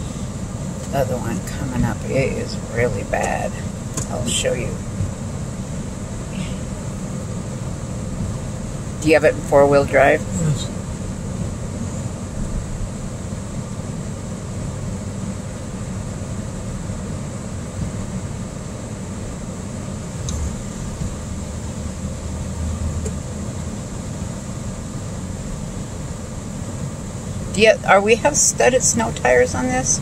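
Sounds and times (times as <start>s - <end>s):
vehicle engine and tyre noise: 0.0s - 30.0s.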